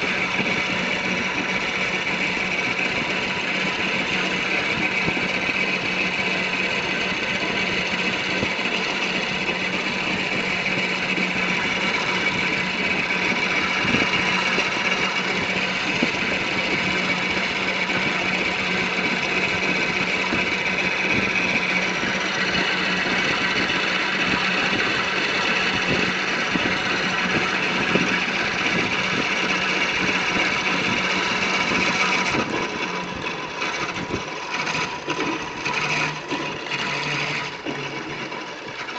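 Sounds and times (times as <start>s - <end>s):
vehicle engine drone with whine: 0.0s - 38.9s.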